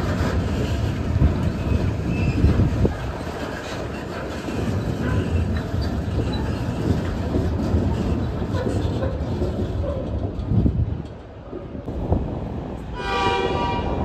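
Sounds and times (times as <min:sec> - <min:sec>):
freight train wheels clattering: 0:00.0 - 0:12.0.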